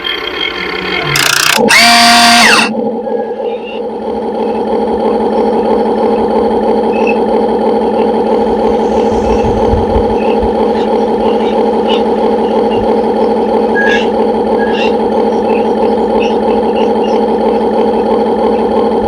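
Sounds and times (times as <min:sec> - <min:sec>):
model excavator motor whine: 0:00.0 - 0:19.0.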